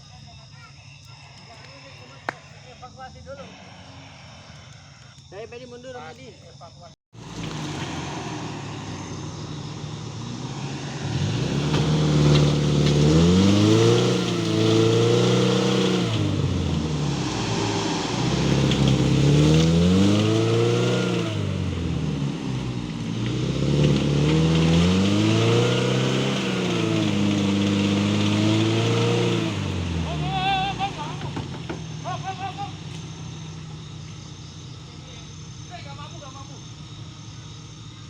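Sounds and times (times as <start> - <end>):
off-road engine revving: 7.2 - 38.0.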